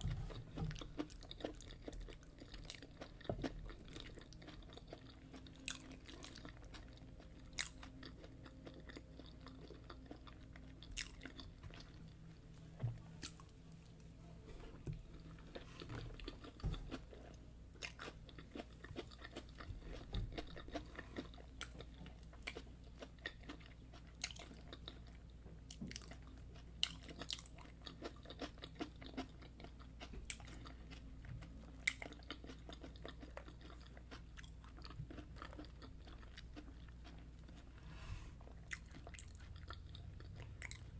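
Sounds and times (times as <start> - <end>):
chewing and crunching: 0.0 - 14.0, 14.6 - 37.8, 38.4 - 40.9
faint low hum: 0.0 - 40.9.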